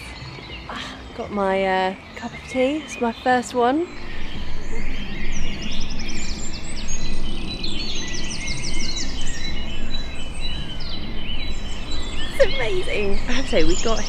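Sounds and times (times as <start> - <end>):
songbirds singing: 0.0 - 14.0
steady low rumble: 0.0 - 14.0.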